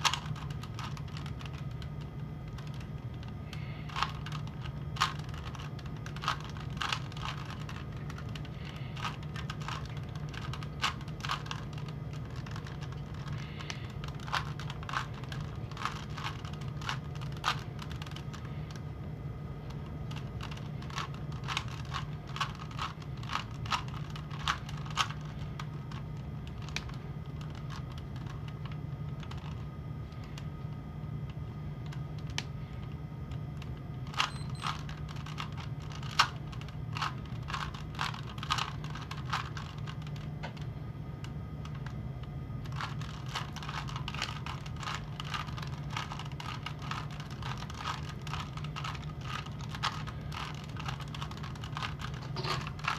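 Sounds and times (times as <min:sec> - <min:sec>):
puzzle cube plastic clicks: 0:00.0 - 0:18.8, 0:19.7 - 0:29.6, 0:33.6 - 0:40.7, 0:42.6 - 0:52.9
steady low hum: 0:00.0 - 0:52.9.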